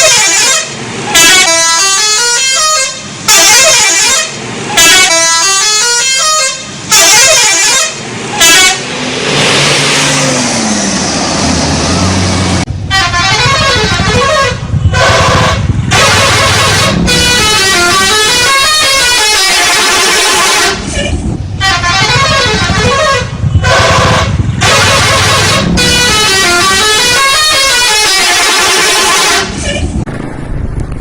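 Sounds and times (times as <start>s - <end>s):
multi-tone air horn tune: 0.0s - 9.1s, 12.9s - 29.9s.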